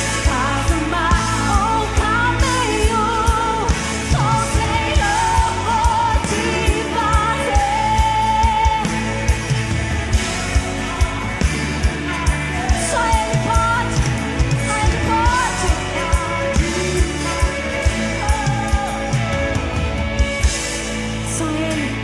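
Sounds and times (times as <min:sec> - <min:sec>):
women singing: 0:00.0 - 0:20.4
acoustic guitar: 0:00.0 - 0:22.0
drum kit beat: 0:00.0 - 0:22.0.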